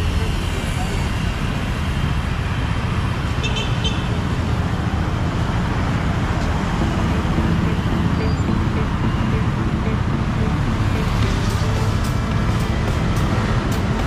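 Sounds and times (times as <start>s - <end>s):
traffic passing: 0.0s - 14.0s.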